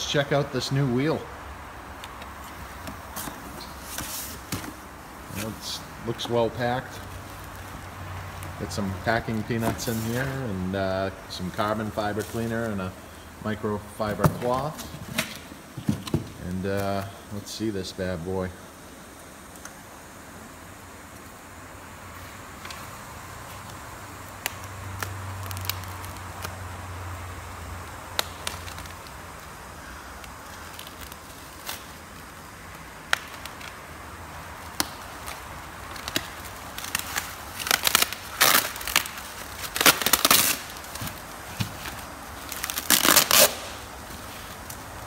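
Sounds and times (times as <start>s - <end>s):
bubble wrap crinkling: 1.9s - 17.2s, 22.1s - 45.0s.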